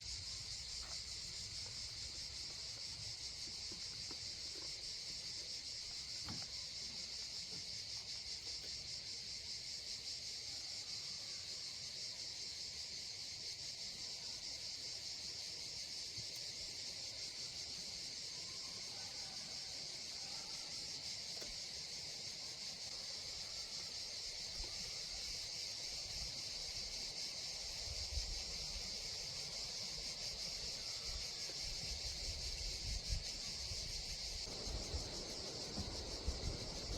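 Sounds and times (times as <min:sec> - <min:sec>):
forest insects chorus: 0:00.0 - 0:36.9.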